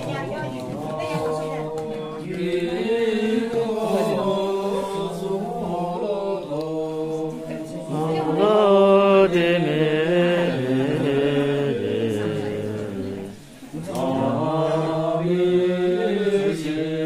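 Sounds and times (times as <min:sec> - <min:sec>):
voices chanting: 0:00.0 - 0:17.0.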